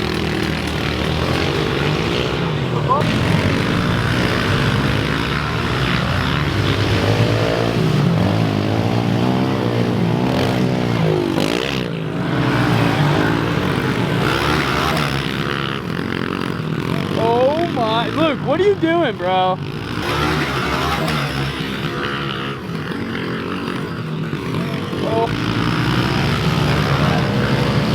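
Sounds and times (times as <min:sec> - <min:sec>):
pit bike engines revving: 0:00.0 - 0:27.9.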